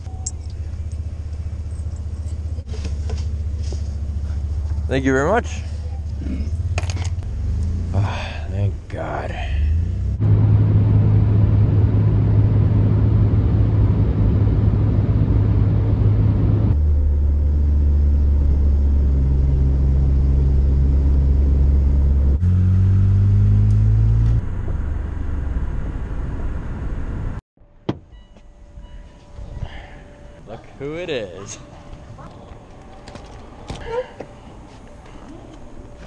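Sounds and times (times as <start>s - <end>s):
car engine drone: 0.0s - 36.0s
tyres on road: 0.0s - 36.0s.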